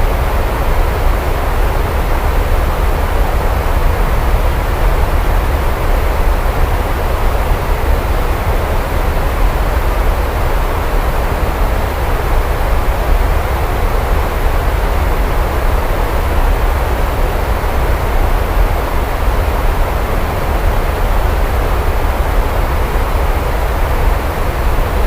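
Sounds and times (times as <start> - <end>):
steady rainfall: 0.0 - 25.0.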